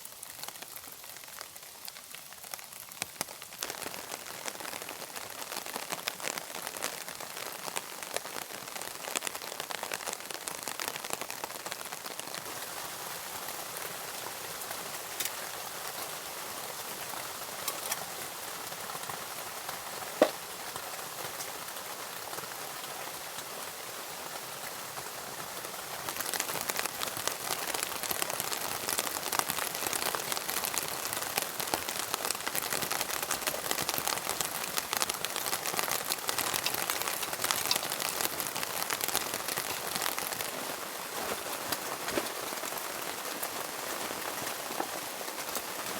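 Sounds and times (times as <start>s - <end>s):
rain pattering: 0.0s - 45.9s.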